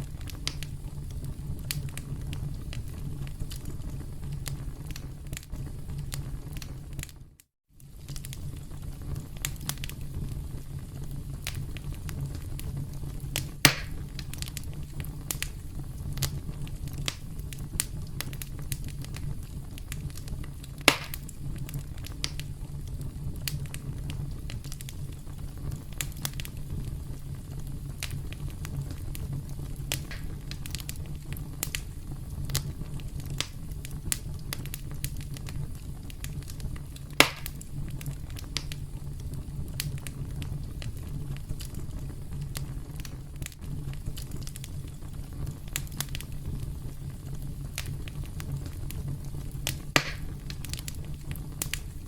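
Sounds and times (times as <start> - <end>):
campfire rumble and crackling: 0.0 - 52.0
fire popping: 0.0 - 52.0.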